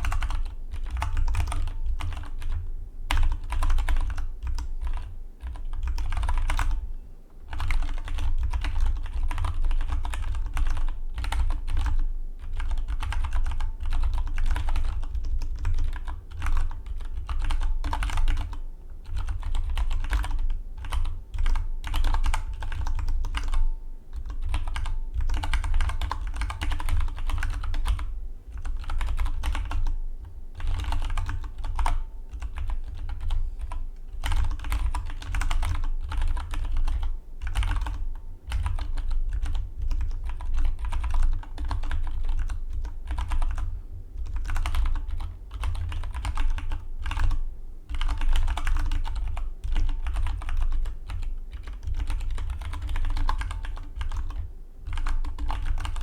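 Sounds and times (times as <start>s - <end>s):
fast keyboard typing: 0.0s - 6.8s, 7.5s - 30.0s, 30.6s - 56.0s.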